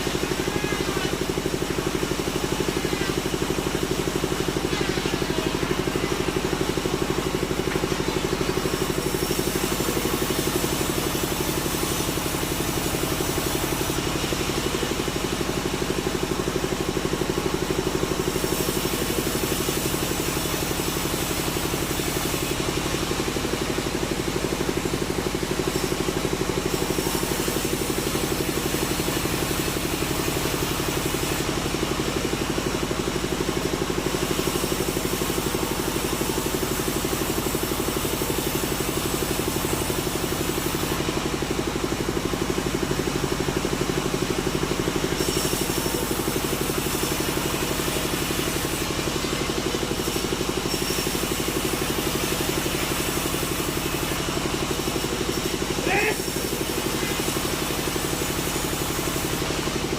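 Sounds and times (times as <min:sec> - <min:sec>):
sawmill engine humming: 0:00.0 - 0:59.9.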